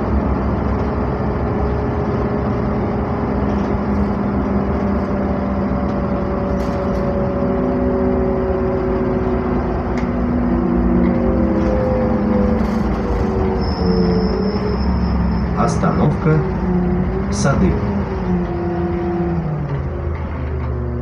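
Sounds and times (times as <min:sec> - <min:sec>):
bus engine and road rumble: 0:00.0 - 0:21.0
drivetrain whine: 0:00.0 - 0:21.0.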